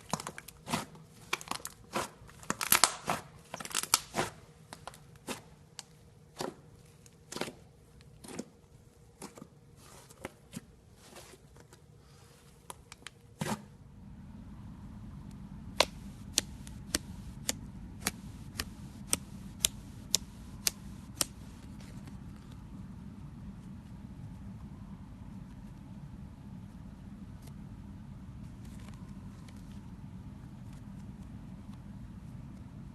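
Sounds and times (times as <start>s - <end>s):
low steady background noise: 0.0s - 32.9s.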